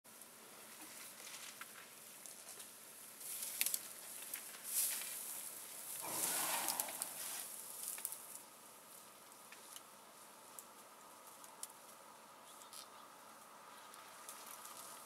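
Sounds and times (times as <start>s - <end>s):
leaves and twigs rustling: 0.6s - 15.0s.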